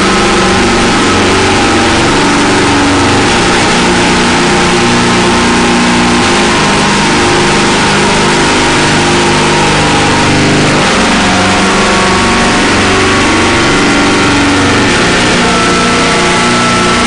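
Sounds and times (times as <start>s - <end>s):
harsh noise drone music: 0.0s - 17.0s.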